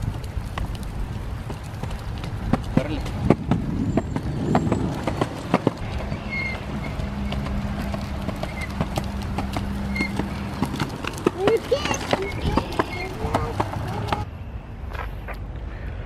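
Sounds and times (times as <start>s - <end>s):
wheels rolling on concrete: 0.0s - 16.0s.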